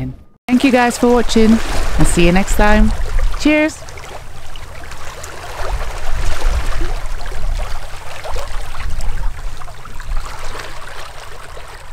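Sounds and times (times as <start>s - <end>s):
water rushing and splashing: 0.5s - 11.9s.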